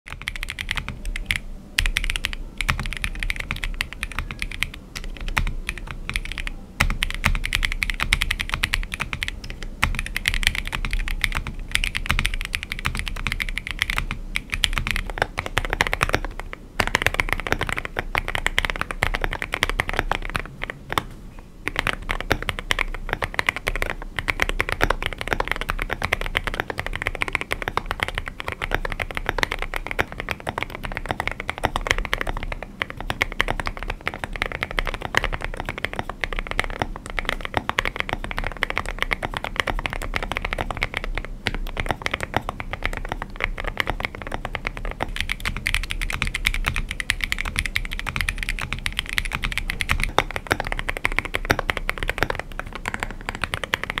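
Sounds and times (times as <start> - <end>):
fast typing on mechanical keyboard: 0.1 - 54.0.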